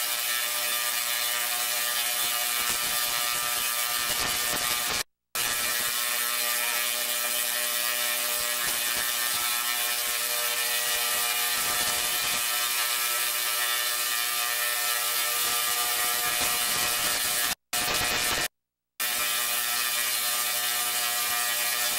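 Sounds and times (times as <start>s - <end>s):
electric sparks crackling: 0.2s - 21.9s.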